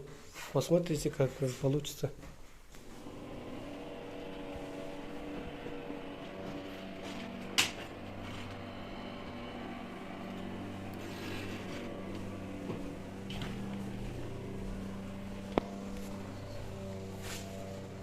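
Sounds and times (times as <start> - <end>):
machine hum with held tones: 2.8 - 18.0.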